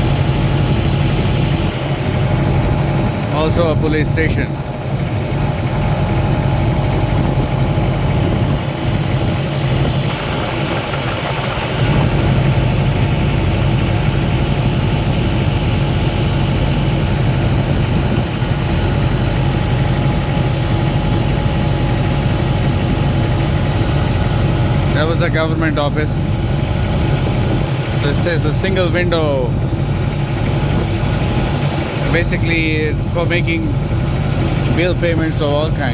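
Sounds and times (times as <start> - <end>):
motorboat engine running: 0.0 - 35.9.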